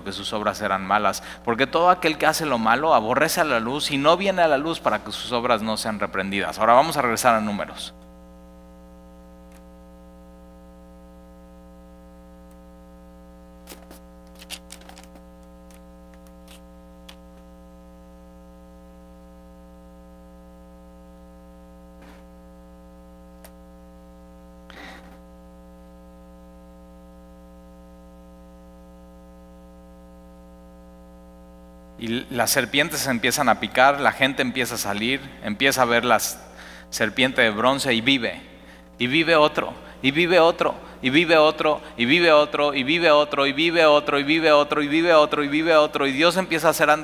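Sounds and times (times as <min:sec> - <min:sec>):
electrical mains hum: 0:00.0 - 0:47.0.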